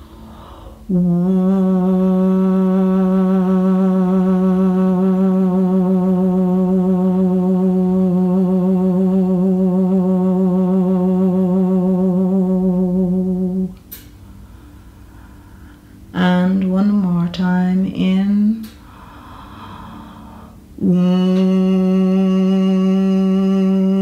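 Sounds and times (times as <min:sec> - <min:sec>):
woman singing long note: 0:00.9 - 0:13.8, 0:16.1 - 0:18.8, 0:19.8 - 0:24.0.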